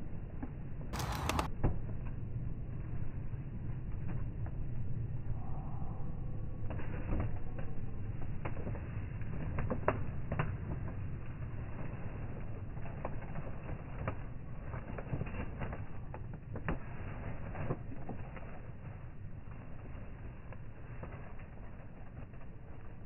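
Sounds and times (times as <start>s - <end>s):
campfire crackling: 0.2s - 5.4s, 6.2s - 23.0s.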